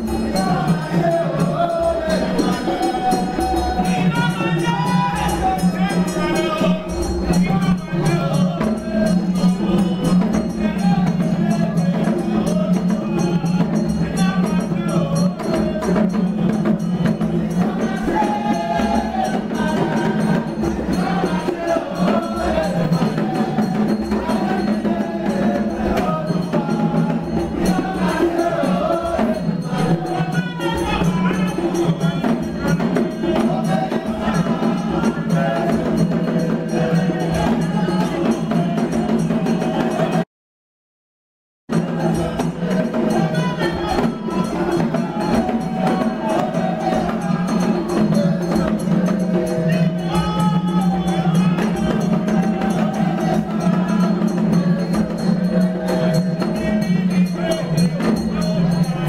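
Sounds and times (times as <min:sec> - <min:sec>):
hand percussion knocking beat: 0:00.0 - 0:40.2, 0:41.7 - 0:59.0
voices singing: 0:00.0 - 0:40.2, 0:41.7 - 0:59.0.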